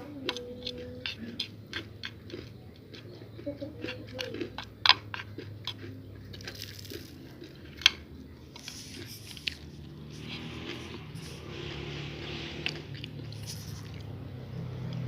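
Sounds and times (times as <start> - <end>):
chewing crackles: 0.0 - 15.0
crunching crispy rice cake: 0.2 - 15.0.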